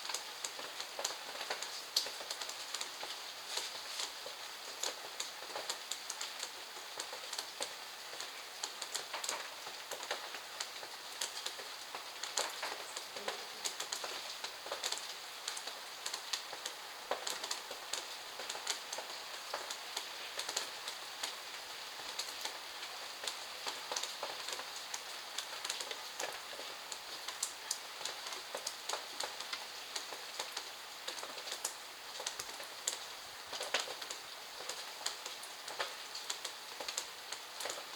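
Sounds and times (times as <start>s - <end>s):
steady rain: 0.0s - 37.9s.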